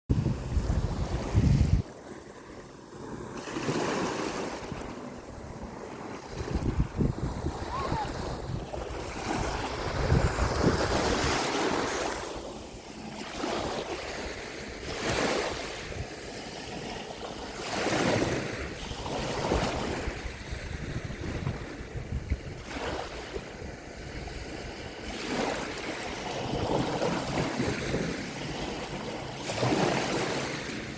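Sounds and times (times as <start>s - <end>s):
wind buffeting microphone: 0.1s - 2.0s, 3.0s - 16.8s, 17.7s - 30.9s
sea waves breaking on shore: 0.1s - 30.9s.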